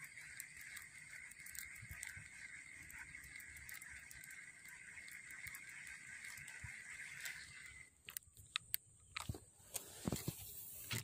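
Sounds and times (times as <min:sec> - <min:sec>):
fishing reel clicks and knocks: 0:00.0 - 0:09.3.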